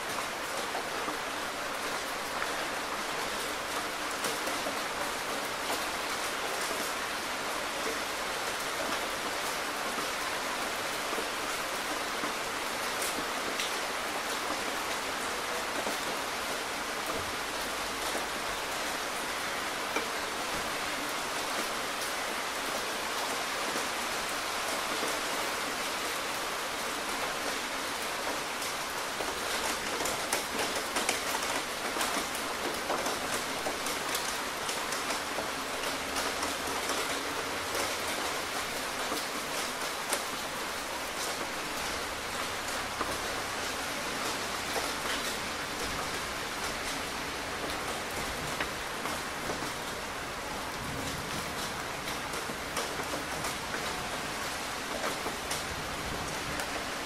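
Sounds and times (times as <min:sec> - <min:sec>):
rain falling in an even hiss: 0:00.0 - 0:57.0.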